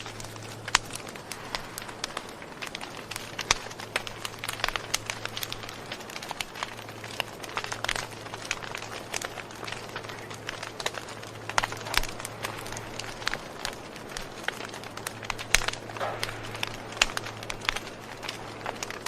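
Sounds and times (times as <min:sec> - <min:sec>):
campfire crackling and popping: 0:00.0 - 0:19.0
steady low hum: 0:00.0 - 0:19.0.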